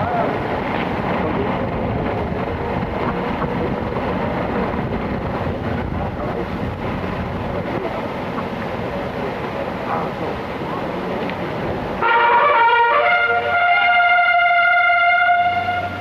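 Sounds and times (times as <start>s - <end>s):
vehicle rumbling: 0.0s - 16.0s.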